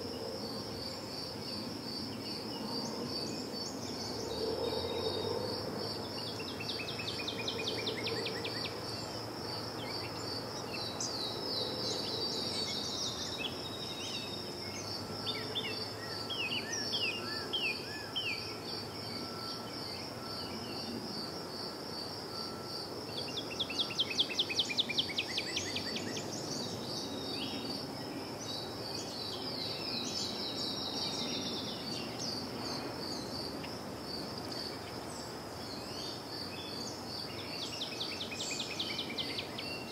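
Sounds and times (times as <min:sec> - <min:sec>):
cricket trilling: 0:00.0 - 0:39.9
songbirds singing: 0:00.0 - 0:39.9.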